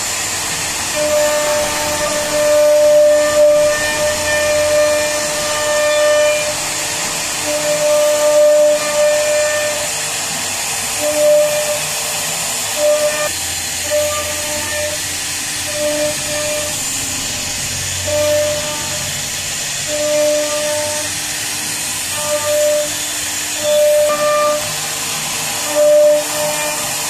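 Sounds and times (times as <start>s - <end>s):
router bit whining: 0.0s - 27.0s
router hiss: 0.0s - 27.0s.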